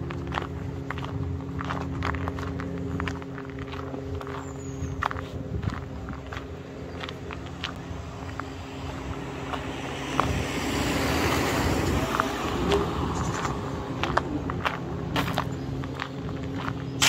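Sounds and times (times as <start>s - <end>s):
footsteps on gravel: 0.0s - 17.0s
van passing on road: 0.0s - 17.0s.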